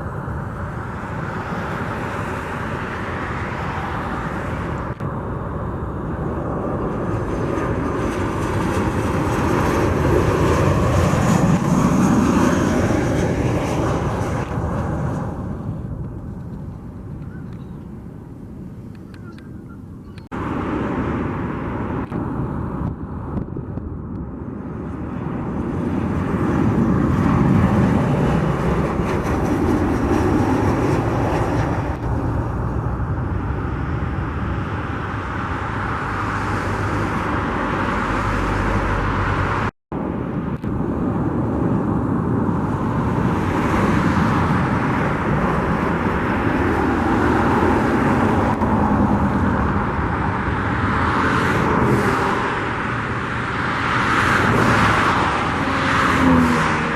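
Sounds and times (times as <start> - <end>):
jet engine roar: 0.0 - 56.9.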